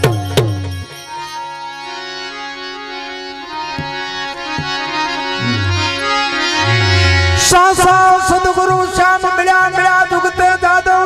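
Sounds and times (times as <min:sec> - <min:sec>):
harmonium chords: 0:00.0 - 0:11.0.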